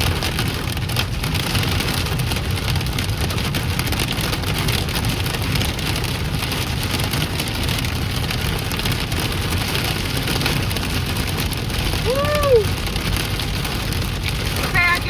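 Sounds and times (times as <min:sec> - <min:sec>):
hail and rain pelting a car: 0:00.0 - 0:15.0
road and engine rumble: 0:00.0 - 0:15.0.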